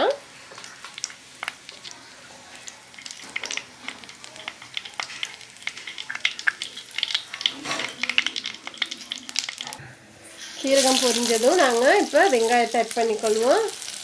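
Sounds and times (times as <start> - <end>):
seeds sizzling and popping in oil: 0.1 - 14.0.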